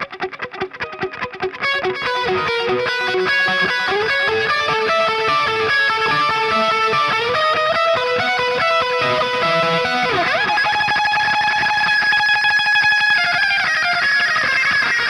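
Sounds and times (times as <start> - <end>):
electric guitar lead runs: 0.0 - 15.0.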